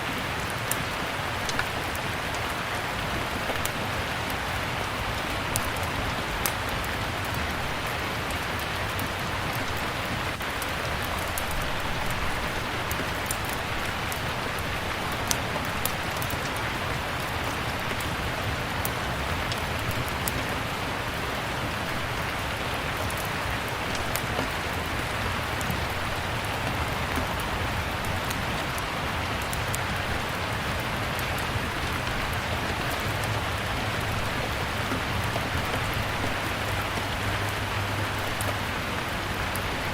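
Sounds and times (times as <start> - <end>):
steady rain: 0.0 - 39.9
wood fire crackling: 0.2 - 37.2.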